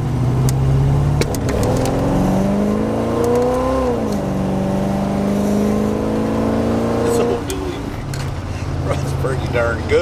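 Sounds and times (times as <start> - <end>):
engine accelerating: 0.0 - 10.0.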